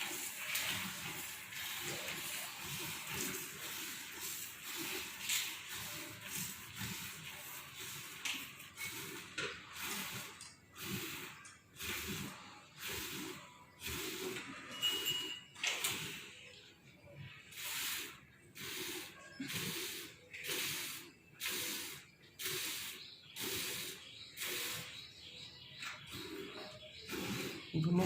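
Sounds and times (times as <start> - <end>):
milk squirting into a bucket: 0.0 - 15.0, 17.5 - 24.9, 27.1 - 27.7.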